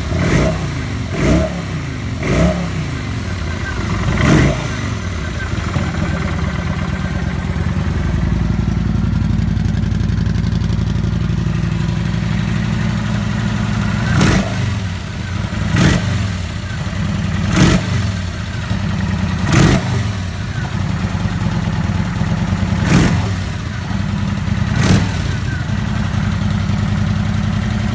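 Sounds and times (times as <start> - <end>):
engine throttle blips: 0.0 - 27.9
motorcycle engine idling: 0.0 - 27.9.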